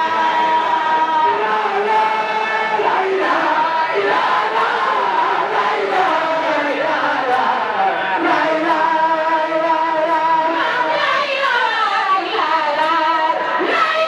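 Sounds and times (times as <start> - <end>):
women singing a chant in unison: 0.0 - 14.0.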